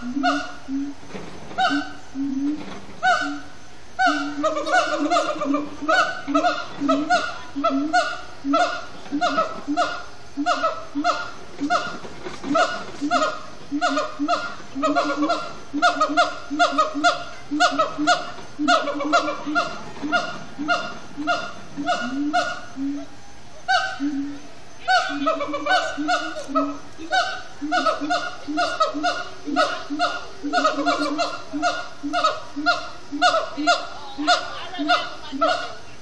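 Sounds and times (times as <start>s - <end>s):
gibbons calling: 0.0s - 36.0s.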